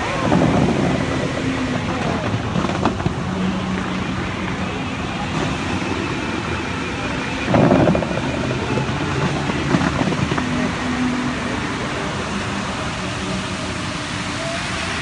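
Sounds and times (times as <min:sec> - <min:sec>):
fountain water jets spraying: 0:00.0 - 0:15.0.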